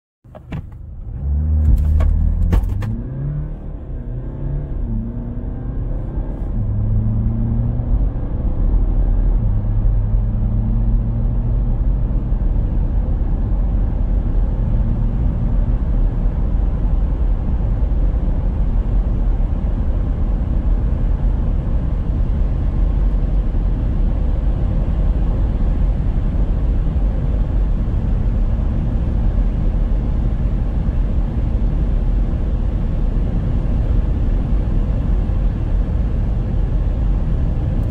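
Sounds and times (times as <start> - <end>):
wind and tyre noise: 0.2 - 37.9
diesel car engine accelerating: 0.3 - 37.9.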